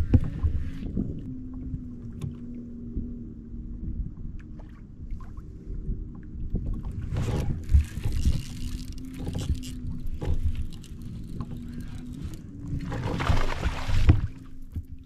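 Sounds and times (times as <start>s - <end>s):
water lapping against kayak hull: 0.0s - 15.0s
wind rumbling on microphone: 0.0s - 15.0s.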